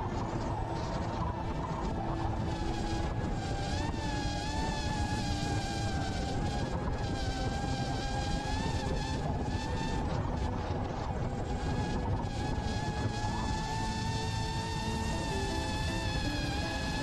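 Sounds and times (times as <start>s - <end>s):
drone motors whining: 0.0s - 17.0s
rushing wind: 0.0s - 17.0s.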